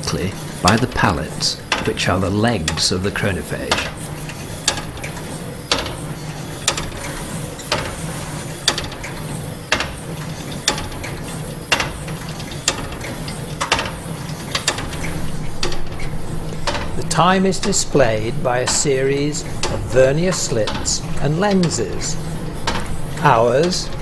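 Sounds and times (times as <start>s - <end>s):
clock escapement clicking: 0.0s - 24.0s.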